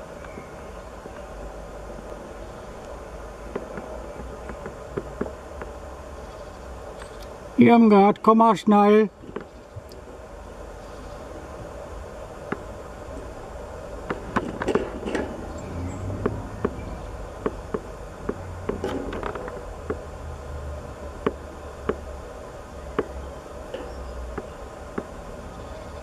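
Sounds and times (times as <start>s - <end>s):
insects buzzing: 0.0s - 26.0s
low steady hum: 0.0s - 26.0s.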